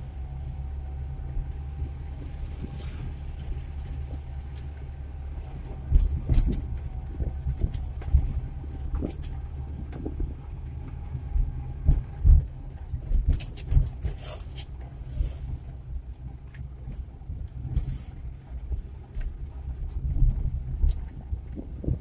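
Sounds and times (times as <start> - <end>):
engine running from inside cab: 0.0 - 22.0
low road thumps: 0.0 - 22.0.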